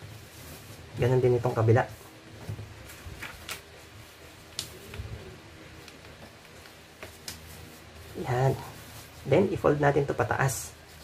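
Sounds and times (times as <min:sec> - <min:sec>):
paper crinkles: 0:00.0 - 0:11.0
paper rustling and creasing: 0:00.0 - 0:11.0.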